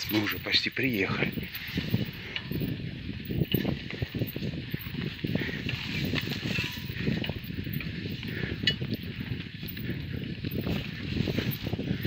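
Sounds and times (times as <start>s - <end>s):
bicycle frame rattling: 0.0s - 12.0s.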